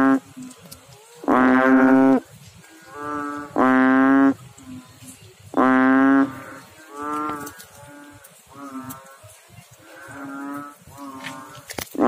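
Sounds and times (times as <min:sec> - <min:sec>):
faint frog calls: 0:00.0 - 0:12.0
frog calling low moo-like calls: 0:00.0 - 0:12.0.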